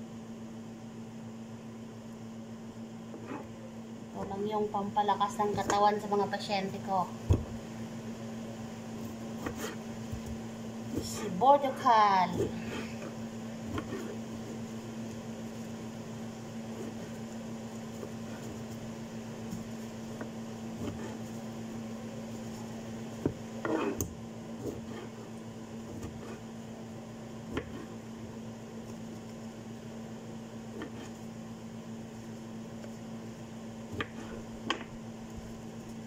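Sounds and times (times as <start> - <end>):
kitchen appliance humming: 1.0 - 36.0.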